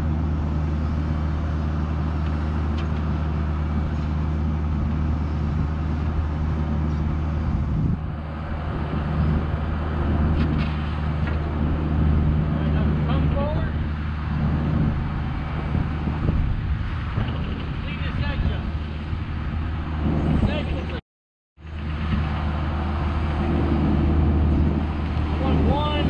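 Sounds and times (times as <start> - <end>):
excavator diesel engine running: 0.0 - 21.0, 21.6 - 26.0.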